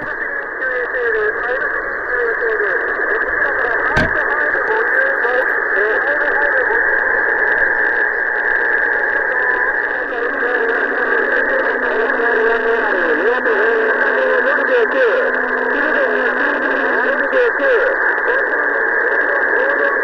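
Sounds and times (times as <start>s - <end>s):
radio static: 0.0s - 20.0s.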